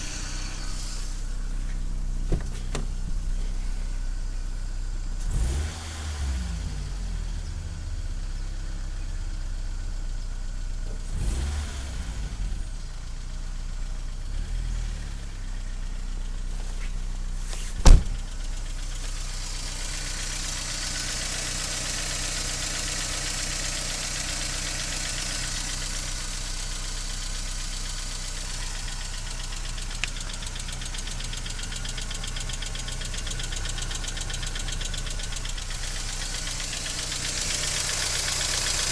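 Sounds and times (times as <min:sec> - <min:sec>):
engine with rattling lifters: 0:00.0 - 0:38.9.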